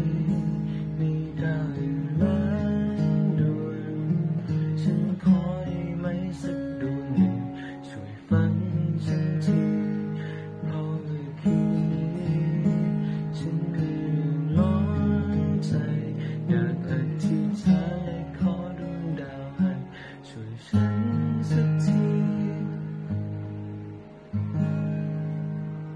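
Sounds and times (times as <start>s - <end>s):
acoustic guitar playing: 0.0s - 25.9s.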